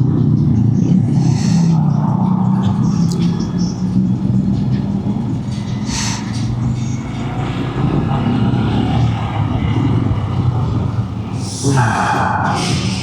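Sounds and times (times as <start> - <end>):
motorcycle engine at speed: 0.0 - 13.0.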